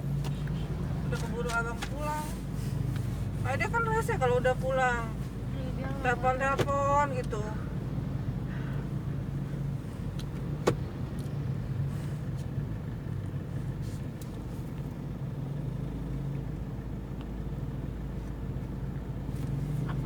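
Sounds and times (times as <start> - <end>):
diesel engine and road noise drone: 0.0 - 20.0.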